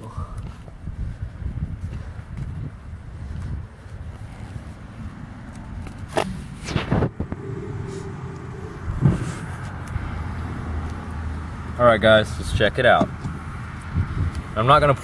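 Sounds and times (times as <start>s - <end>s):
wind rumble on microphone: 0.1s - 11.8s, 12.4s - 15.0s.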